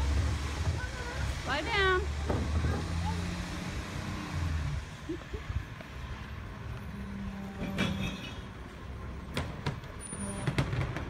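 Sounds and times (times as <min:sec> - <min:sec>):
diesel engine humming: 0:00.0 - 0:10.9.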